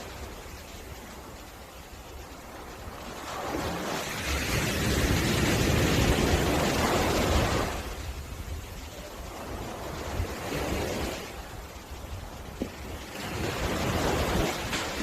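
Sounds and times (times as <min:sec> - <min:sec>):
wave breaking on beach: 0:00.0 - 0:15.0
wind on microphone: 0:00.0 - 0:15.0.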